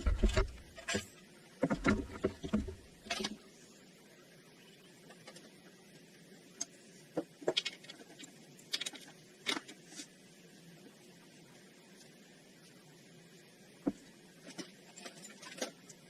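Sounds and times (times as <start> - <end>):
low steady background noise: 0.0 - 16.0.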